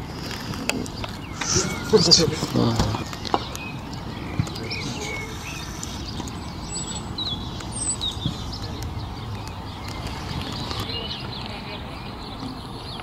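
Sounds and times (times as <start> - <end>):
open-air background noise: 0.0 - 13.0
small birds chirping: 0.0 - 13.0.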